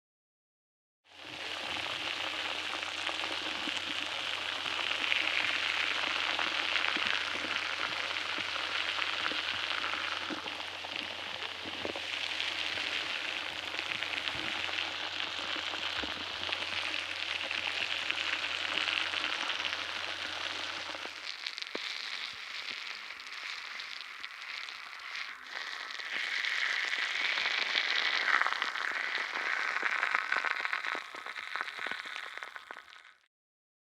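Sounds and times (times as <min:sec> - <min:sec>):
bubbles fizzing in water: 0:01.2 - 0:33.3.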